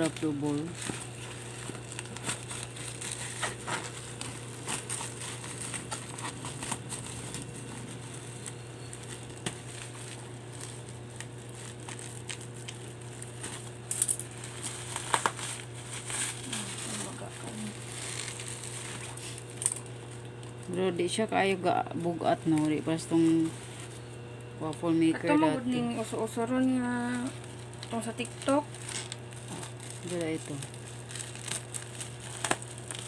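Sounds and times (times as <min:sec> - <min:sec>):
bubble wrap crinkling: 0:00.0 - 0:33.0.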